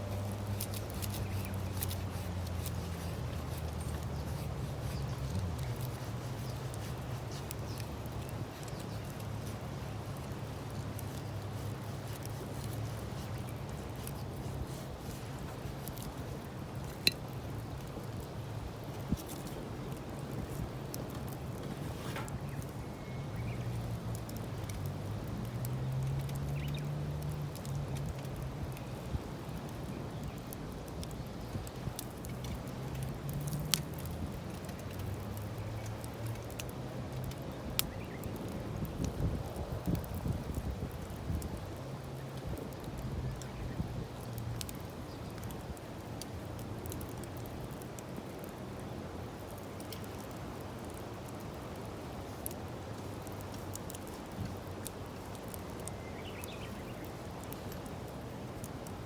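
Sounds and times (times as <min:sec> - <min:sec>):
sharp pops and ticks: 0:00.0 - 0:22.8, 0:23.4 - 0:59.0
fire low rumble: 0:00.0 - 0:59.0
wood fire crackling: 0:00.0 - 0:59.0.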